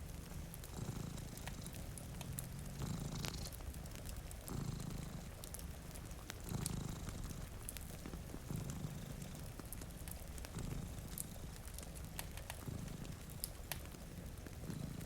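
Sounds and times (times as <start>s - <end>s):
cat purring: 0.0s - 15.0s
wood fire crackles: 0.0s - 15.0s.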